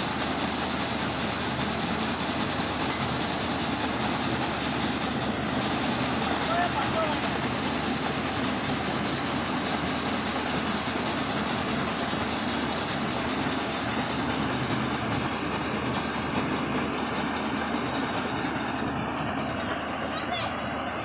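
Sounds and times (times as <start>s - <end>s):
continuous rushing hiss: 0.0s - 21.0s
garlic machine motor hum: 0.1s - 21.0s.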